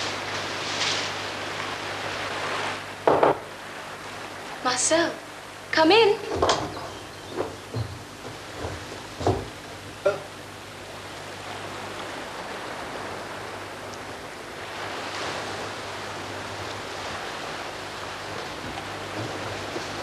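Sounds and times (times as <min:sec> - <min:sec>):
sea surf washing: 0:00.0 - 0:20.0.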